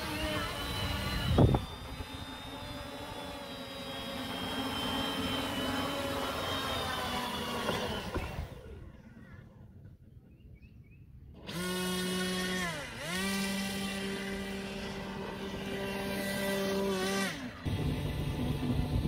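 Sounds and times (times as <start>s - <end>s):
electric motors whining: 0.0s - 10.0s, 11.3s - 19.0s.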